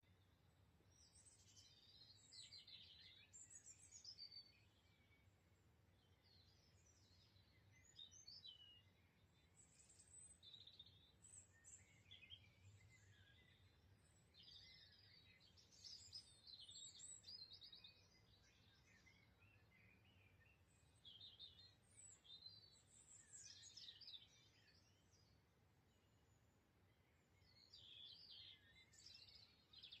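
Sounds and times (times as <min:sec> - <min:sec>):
songbirds singing: 0:00.0 - 0:30.0.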